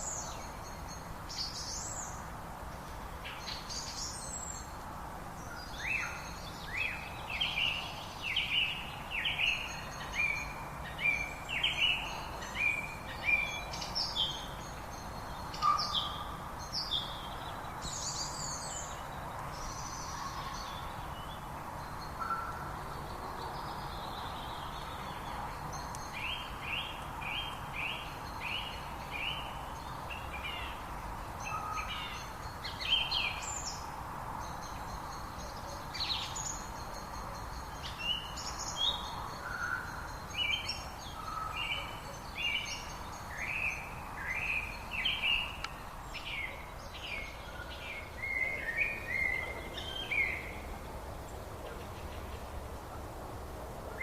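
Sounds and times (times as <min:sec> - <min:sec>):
songbirds chirping: 0:00.0 - 0:54.0
steady background hiss: 0:00.0 - 0:54.0.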